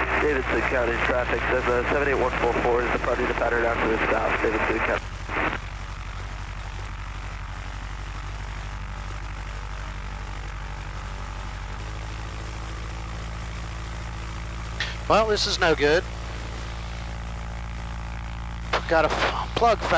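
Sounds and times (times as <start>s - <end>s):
light aircraft engine and propeller: 0.0s - 19.9s.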